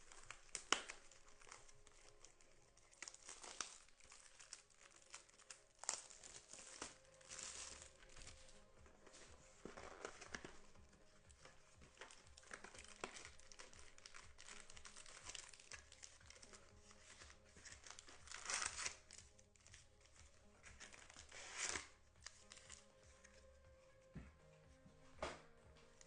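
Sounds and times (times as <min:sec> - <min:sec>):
wrapper ripping: 0:00.0 - 0:23.5
wrapper crinkling: 0:00.0 - 0:23.6.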